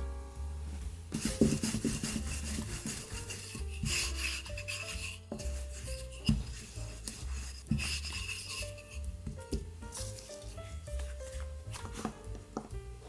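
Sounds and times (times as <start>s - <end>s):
soft background music: 0.0s - 13.0s
dough rubbing and scraping by hand: 0.7s - 12.6s.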